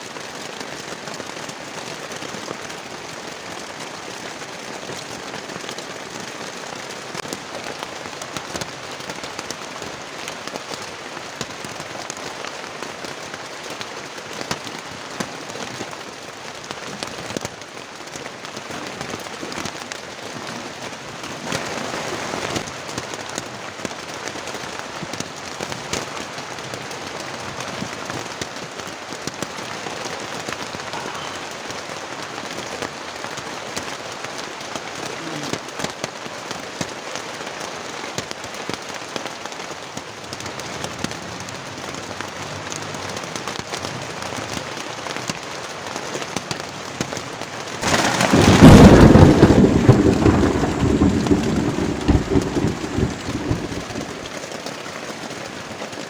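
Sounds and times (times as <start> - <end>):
heavy rain with ticking drops: 0.0 - 56.0.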